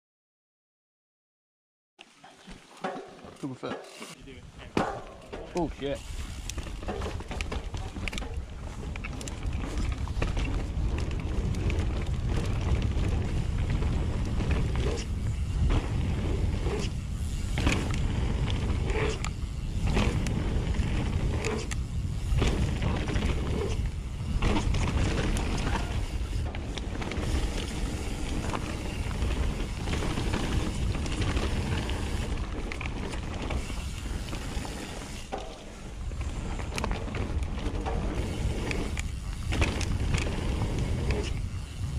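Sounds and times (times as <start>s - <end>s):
bike tyre noise: 2.5s - 41.9s
wind buffeting microphone: 4.3s - 34.4s, 35.9s - 41.9s.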